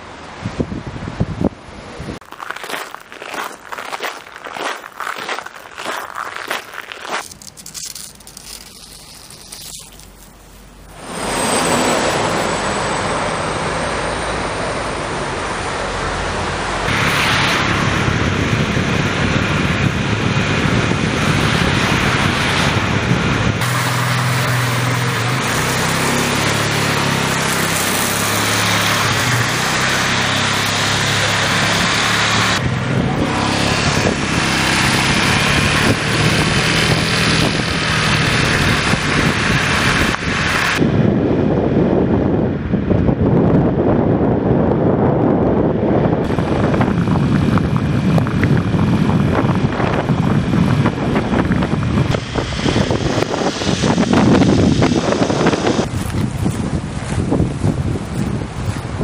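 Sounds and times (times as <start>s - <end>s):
motor vehicles passing: 1.7s - 59.0s.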